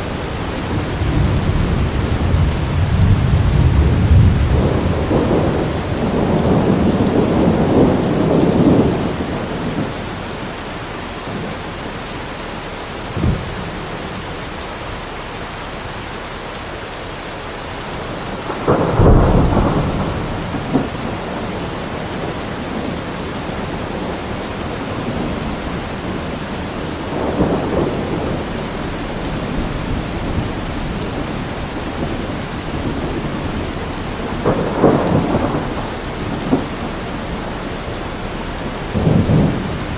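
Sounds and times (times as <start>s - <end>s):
thunder rumbling and cracking: 0.0s - 10.6s, 13.0s - 14.6s, 17.7s - 39.9s
steady rain falling: 0.0s - 39.9s.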